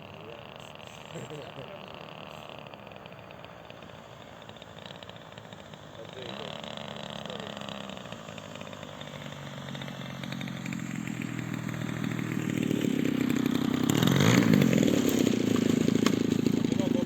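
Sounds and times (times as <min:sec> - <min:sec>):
model plane engine flying by: 0:00.0 - 0:17.0.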